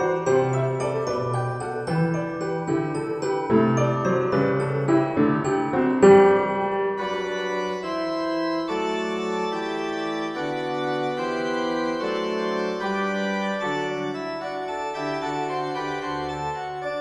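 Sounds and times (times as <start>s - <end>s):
held keyboard chords: 0.0s - 17.0s.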